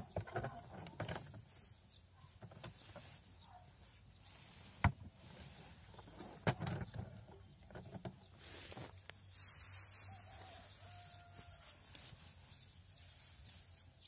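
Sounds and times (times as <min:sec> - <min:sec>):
dry hay rustling: 0:00.0 - 0:06.4, 0:07.1 - 0:14.0
hay crackling and clicks: 0:00.0 - 0:14.0.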